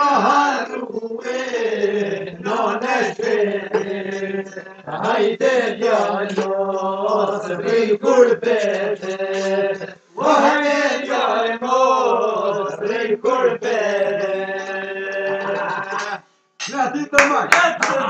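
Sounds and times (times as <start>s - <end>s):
men singing together: 0.0s - 16.2s.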